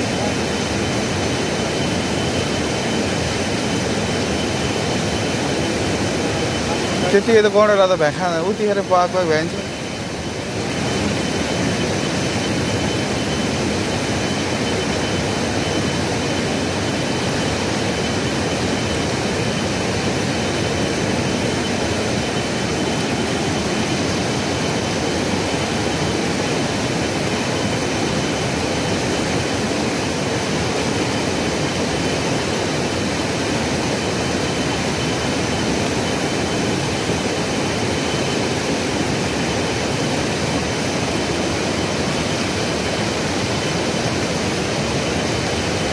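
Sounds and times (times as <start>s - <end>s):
river rushing roar: 0.0s - 45.9s.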